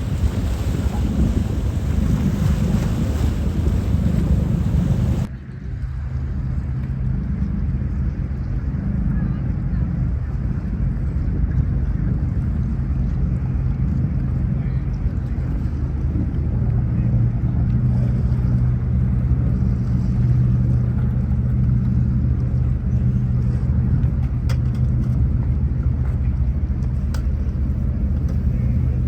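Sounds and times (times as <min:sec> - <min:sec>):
large engine droning: 0:00.0 - 0:29.0.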